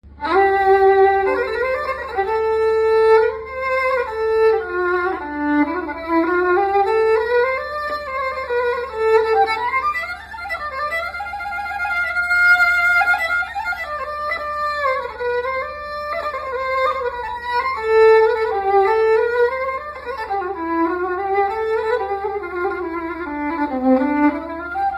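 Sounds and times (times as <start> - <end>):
bowed string instrument melody: 0.0 - 24.9.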